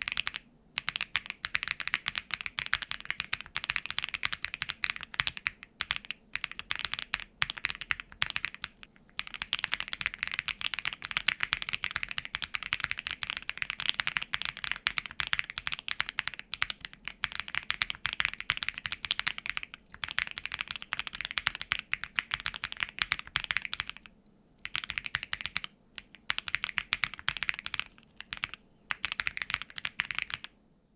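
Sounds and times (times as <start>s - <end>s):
mechanical keyboard typing: 0.0s - 30.5s.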